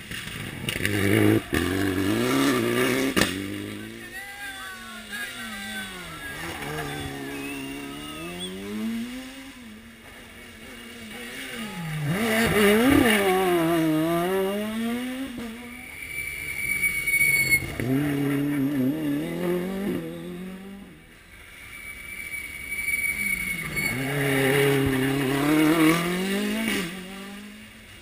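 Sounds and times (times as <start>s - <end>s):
rally car engine passing: 0.0s - 28.0s.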